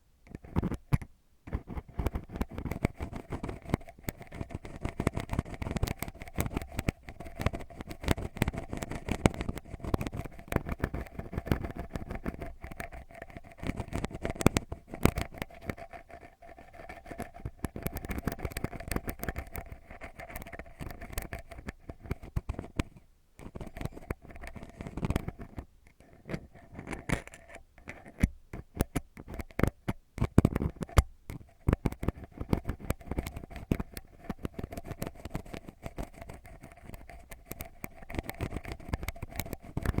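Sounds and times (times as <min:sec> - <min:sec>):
ear pick scratching in ear: 0:01.6 - 0:40.0.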